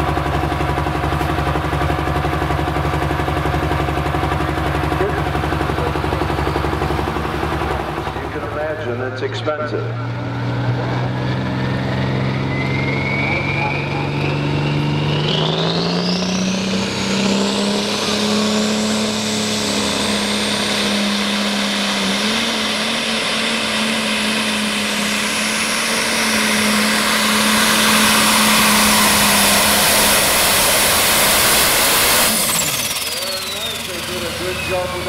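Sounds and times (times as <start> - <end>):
high turbo whine: 0.0 - 35.0
tractor engine at full power: 0.0 - 35.0.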